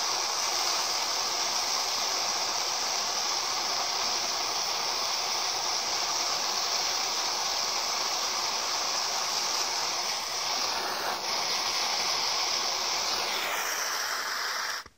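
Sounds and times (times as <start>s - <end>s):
gas torch flame hissing: 0.0s - 14.9s.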